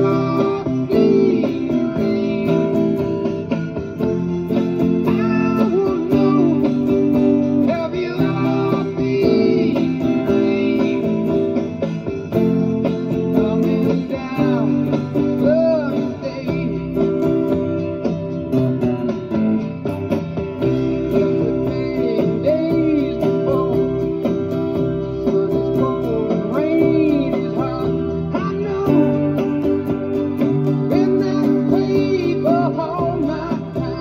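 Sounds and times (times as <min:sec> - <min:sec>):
chords and bass: 0:00.0 - 0:34.0
electric guitar lead with bends: 0:00.0 - 0:34.0.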